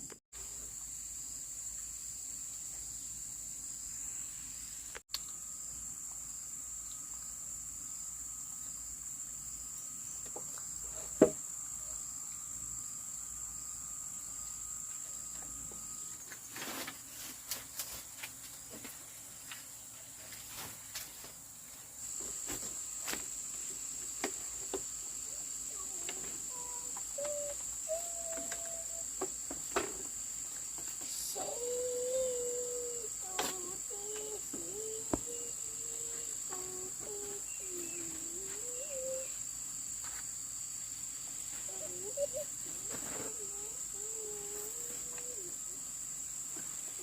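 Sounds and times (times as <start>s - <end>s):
cricket trill: 0.0s - 47.0s.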